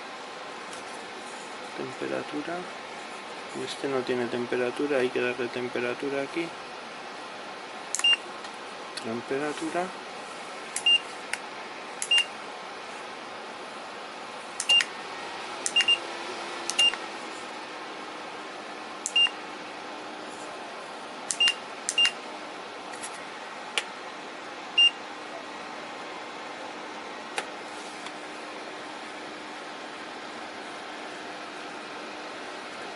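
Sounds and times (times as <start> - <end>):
heater fan running: 0.0 - 32.9.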